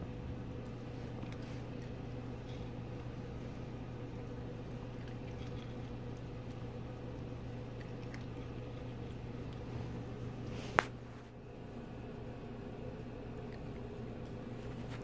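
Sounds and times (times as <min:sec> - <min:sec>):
steady low hum: 0:00.0 - 0:15.0
puppy chewing food: 0:00.1 - 0:11.3, 0:11.9 - 0:15.0.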